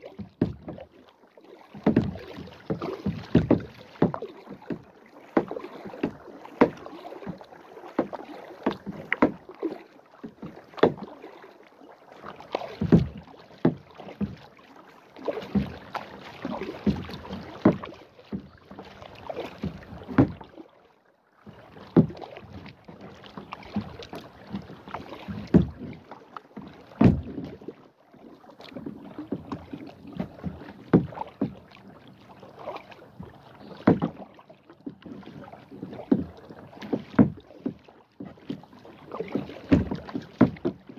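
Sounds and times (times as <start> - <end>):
paddle splashing in water: 0.0 - 40.9.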